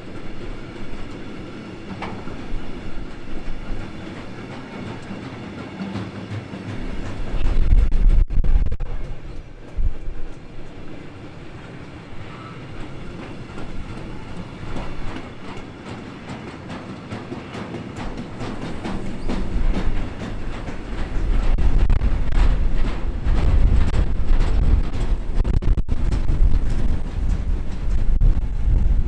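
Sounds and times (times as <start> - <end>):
low train rumble: 0.0 - 29.0
train wheels clicking over rail joints: 0.0 - 29.0.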